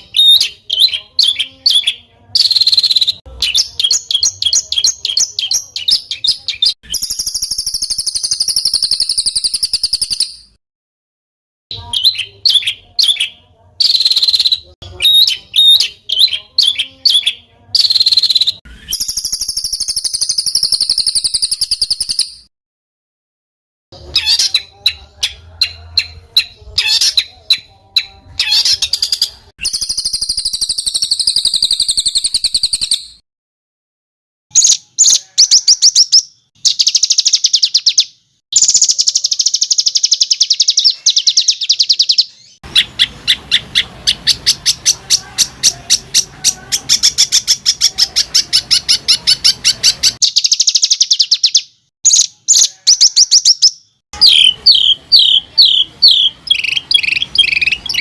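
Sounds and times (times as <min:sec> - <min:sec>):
songbird singing buzzy trills: 0:00.0 - 0:10.6, 0:11.7 - 0:22.5, 0:24.0 - 0:33.2, 0:34.5 - 0:58.0.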